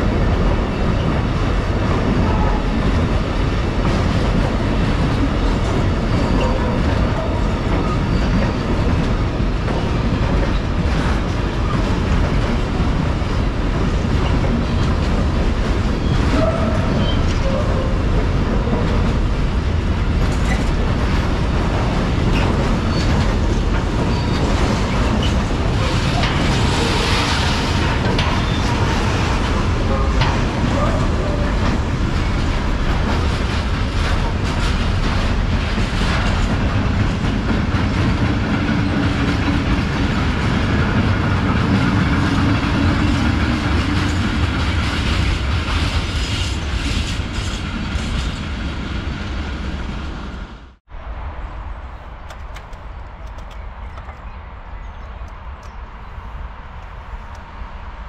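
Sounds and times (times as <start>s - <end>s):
wheels clacking over rail joints: 0.0s - 48.6s
freight train rumble: 0.0s - 58.0s.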